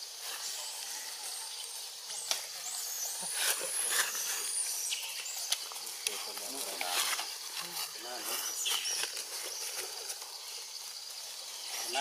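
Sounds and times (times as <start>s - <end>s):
high insect hiss: 0.0s - 12.0s.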